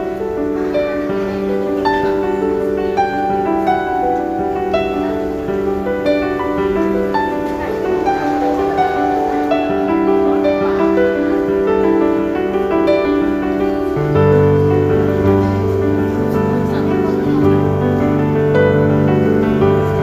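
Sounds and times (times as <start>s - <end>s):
instrumental music of held notes: 0.0s - 20.0s.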